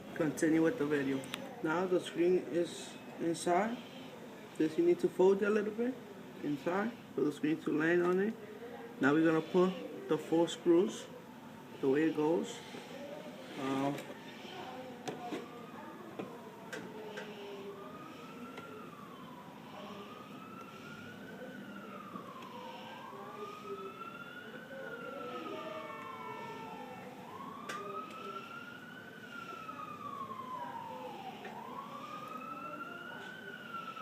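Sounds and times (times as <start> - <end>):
siren wailing: 0.3 - 34.0.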